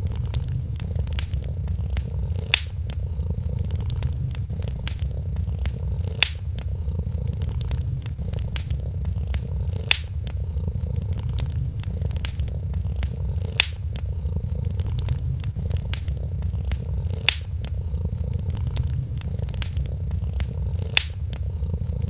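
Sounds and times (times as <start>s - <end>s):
cat purring: 0.0s - 22.0s
wood fire crackling: 0.0s - 22.0s.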